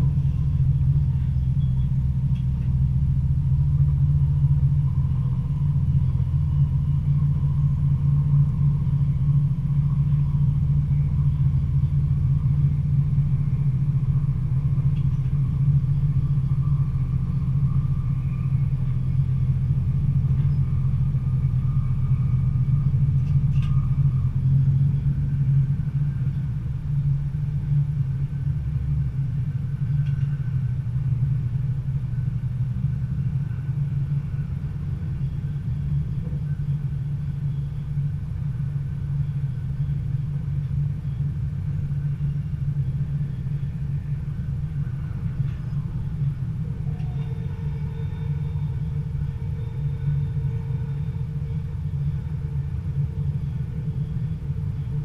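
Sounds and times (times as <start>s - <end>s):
diesel train rumble: 0.0s - 55.0s
faint high steady tone: 0.0s - 55.0s.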